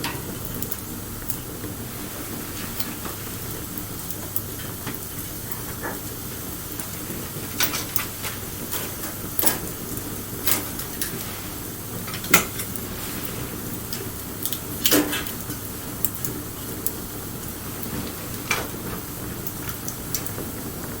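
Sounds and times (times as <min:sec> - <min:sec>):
fire crackling and popping: 0:00.0 - 0:21.0
wood fire burning: 0:00.0 - 0:21.0.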